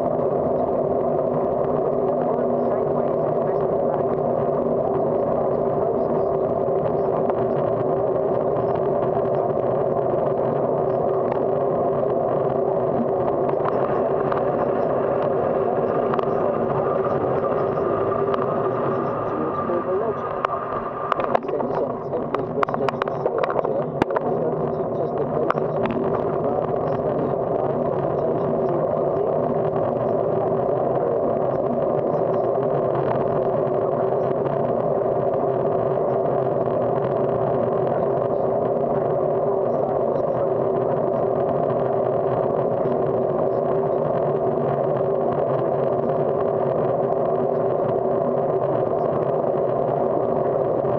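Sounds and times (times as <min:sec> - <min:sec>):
wind noise: 0:00.0 - 0:50.9.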